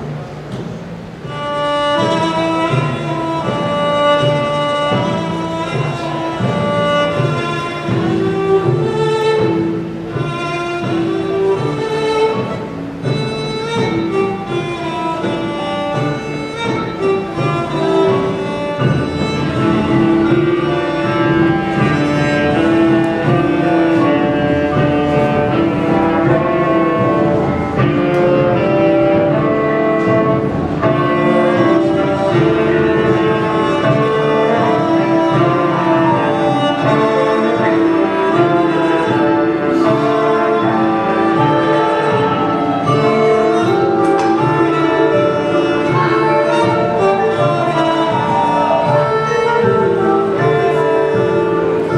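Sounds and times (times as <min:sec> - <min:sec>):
marching band playing: 0:00.0 - 0:51.9.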